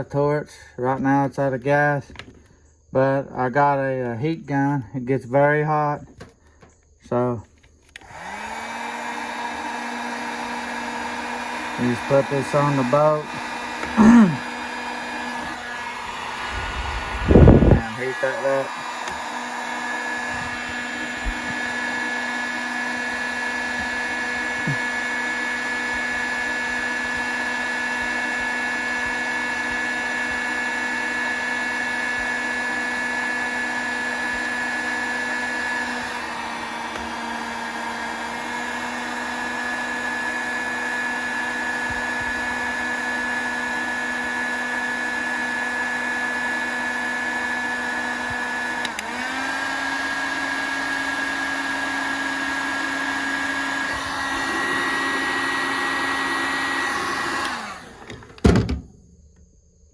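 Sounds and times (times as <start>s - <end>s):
heat gun fan whine: 0.0s - 59.5s.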